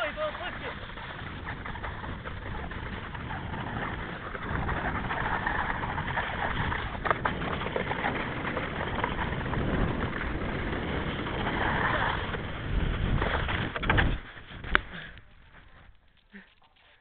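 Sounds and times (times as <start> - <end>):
board scraping over ice and snow: 0.0 - 17.0.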